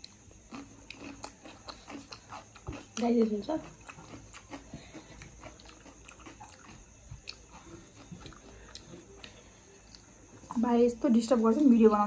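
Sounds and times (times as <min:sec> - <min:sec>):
soft chewing: 0:00.0 - 0:10.8.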